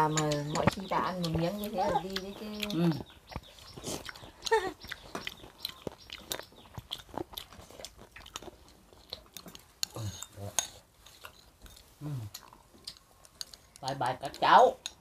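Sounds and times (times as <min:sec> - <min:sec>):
chewing and biting: 0:00.1 - 0:15.0.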